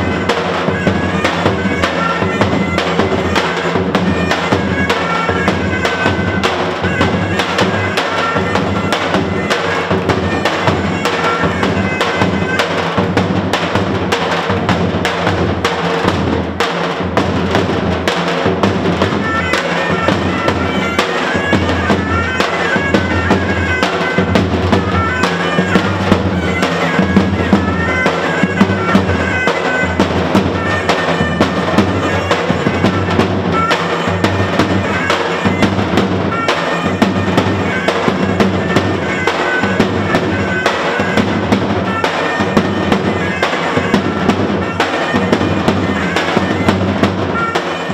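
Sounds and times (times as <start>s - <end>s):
large drums beating: 0.0s - 47.9s
reedy wind instrument melody: 0.0s - 47.9s.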